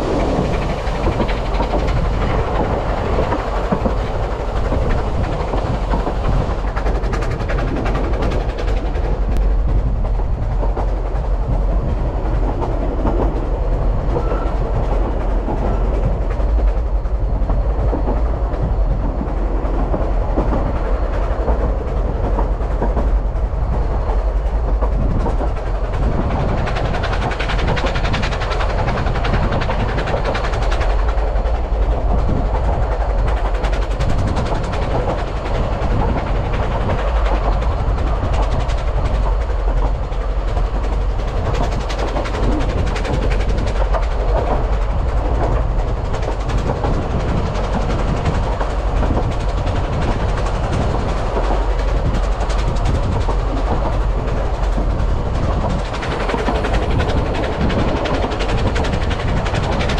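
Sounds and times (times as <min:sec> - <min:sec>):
train wheels rumbling and rattling: 0:00.0 - 0:59.9.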